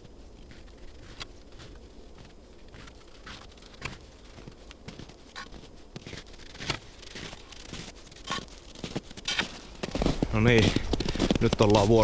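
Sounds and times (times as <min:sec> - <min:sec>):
footsteps crunching on snow: 0:00.0 - 0:12.0.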